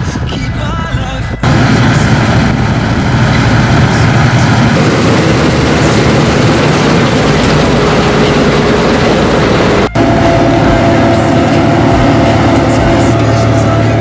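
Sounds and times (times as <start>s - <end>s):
combine harvester running: 1.4s - 14.0s.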